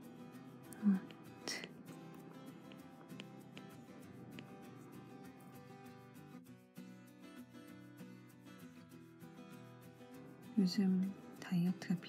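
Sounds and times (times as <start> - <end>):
quiet background music: 0.0 - 12.0.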